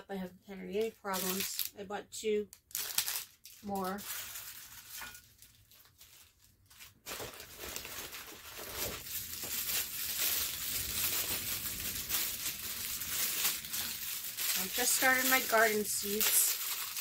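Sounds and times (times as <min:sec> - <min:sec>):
plastic packaging crinkling and tearing: 0:00.8 - 0:01.8, 0:02.5 - 0:17.0.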